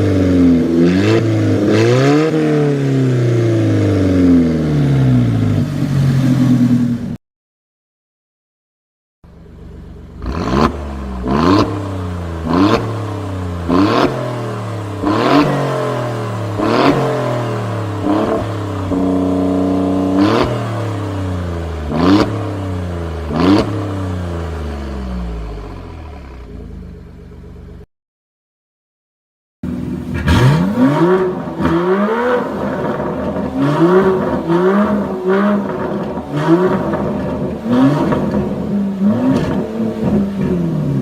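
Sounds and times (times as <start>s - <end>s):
car engine revving and idling: 0.0s - 7.2s, 9.3s - 27.9s, 29.6s - 41.0s.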